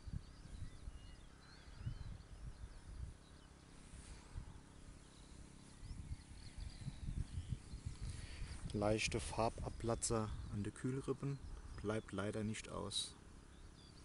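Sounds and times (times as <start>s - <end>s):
wind rumble on microphone: 0.0s - 12.0s
birds chirping: 0.0s - 14.0s.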